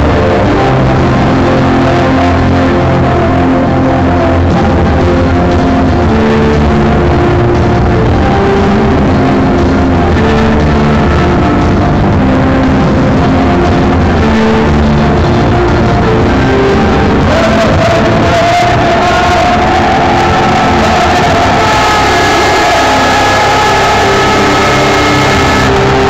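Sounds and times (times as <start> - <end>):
anthem over stadium loudspeakers: 0.0 - 26.0.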